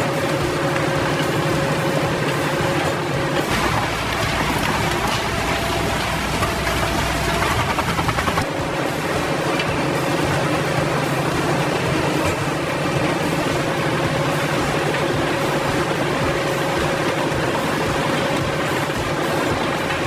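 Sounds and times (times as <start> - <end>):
large diesel engine running: 0.0 - 20.0.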